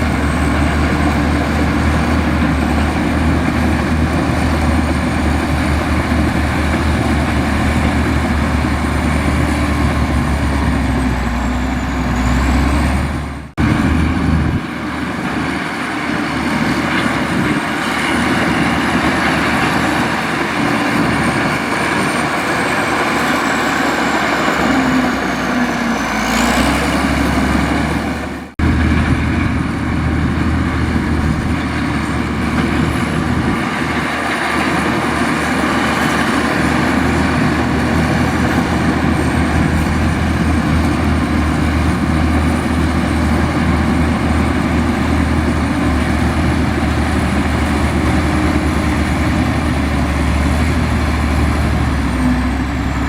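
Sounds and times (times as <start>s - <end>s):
bulldozer engine rumbling: 0.0s - 53.0s.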